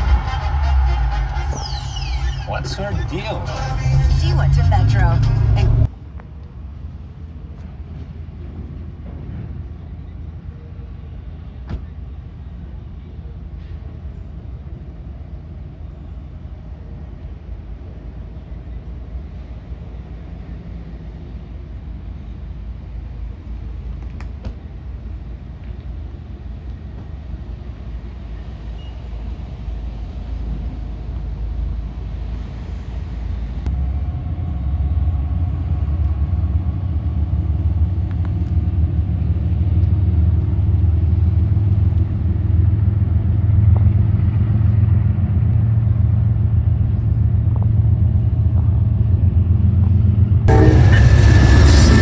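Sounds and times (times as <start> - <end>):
diesel locomotive engine drone: 0.0 - 52.0
freight train rumbling by: 0.0 - 52.0.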